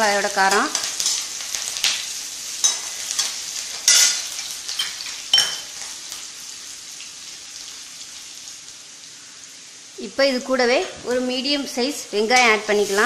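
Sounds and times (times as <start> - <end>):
chillies sizzling in hot oil: 0.0 - 13.0.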